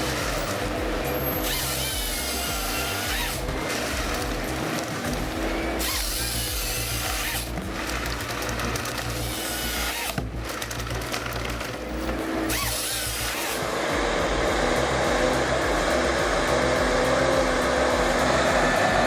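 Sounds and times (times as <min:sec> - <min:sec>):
background music: 0:00.0 - 0:19.0
power tool machinery running: 0:00.0 - 0:19.0.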